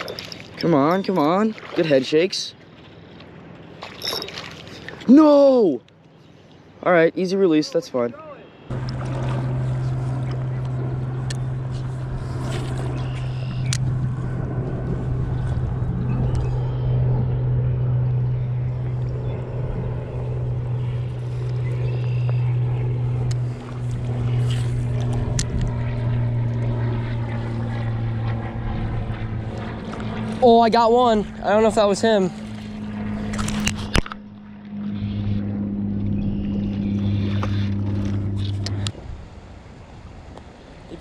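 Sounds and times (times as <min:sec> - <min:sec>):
boat motor humming: 0:00.0 - 0:40.6.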